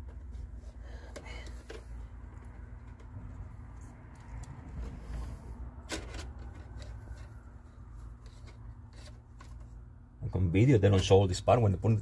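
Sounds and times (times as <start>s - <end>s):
plastic parts rustling and clicking: 0.0s - 9.9s.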